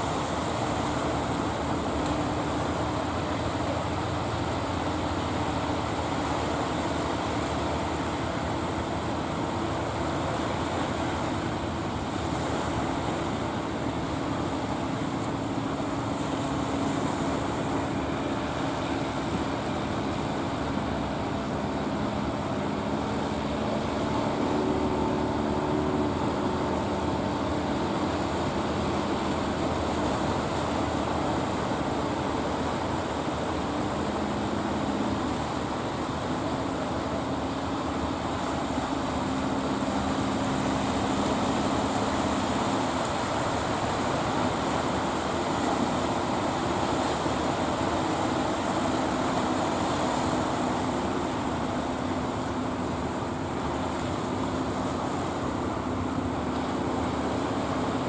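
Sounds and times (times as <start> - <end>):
boat engine droning: 0.0 - 58.0
breaking waves: 0.0 - 58.0.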